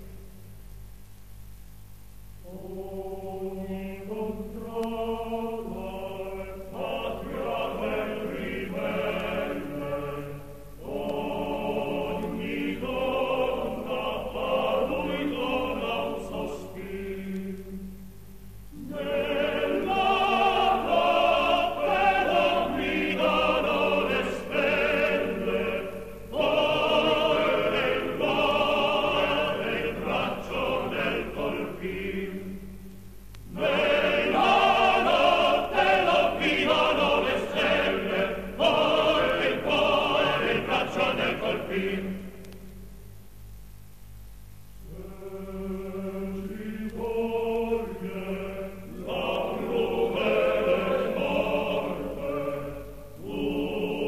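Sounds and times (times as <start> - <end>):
choir singing with vibrato: 2.4 - 43.0, 44.8 - 54.0.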